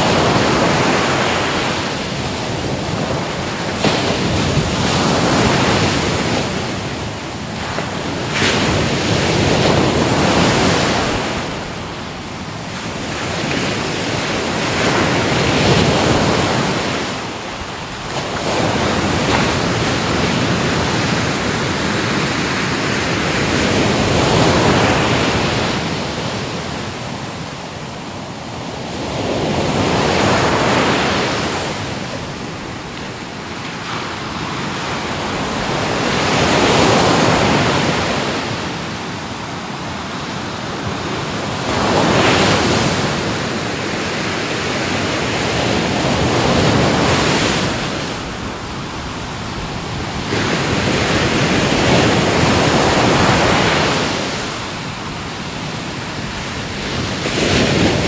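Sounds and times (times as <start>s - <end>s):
ocean waves breaking on shore: 0.0s - 58.0s
roar of surf: 0.0s - 58.0s.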